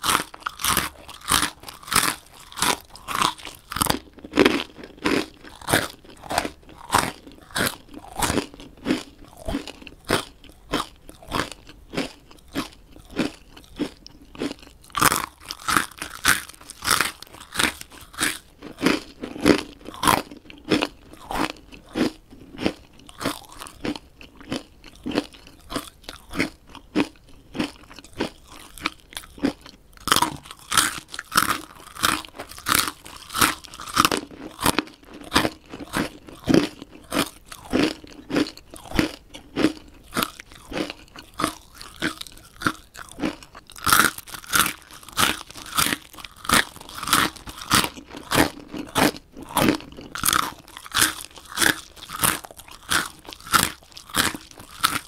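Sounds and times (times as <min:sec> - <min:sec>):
chewing crunchy snack: 0:00.0 - 0:55.0.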